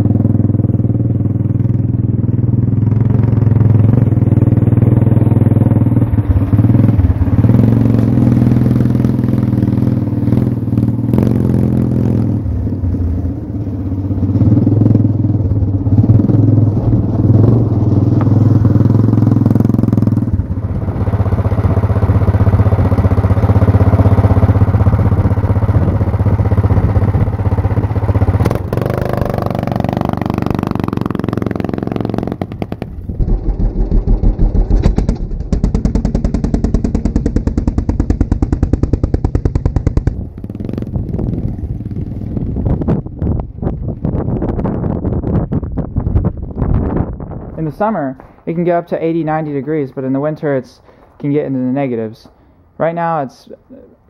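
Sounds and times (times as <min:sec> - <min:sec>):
go-kart engine revving: 0:00.0 - 0:43.8.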